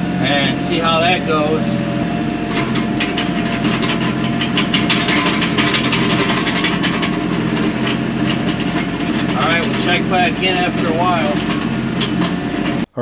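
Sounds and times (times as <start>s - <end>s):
tractor diesel engine running: 0.0s - 13.0s
implement clattering rattle: 0.2s - 12.9s.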